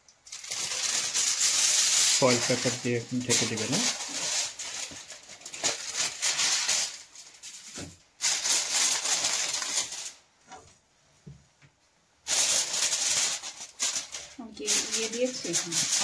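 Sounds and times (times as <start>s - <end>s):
aluminium foil crinkling: 0.2s - 10.3s, 12.2s - 16.0s.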